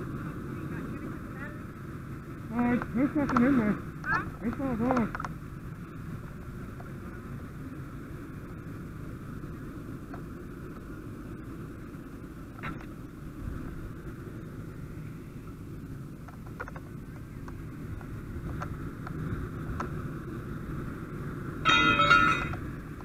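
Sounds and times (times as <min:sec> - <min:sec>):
fire engine running: 0:00.0 - 0:23.0.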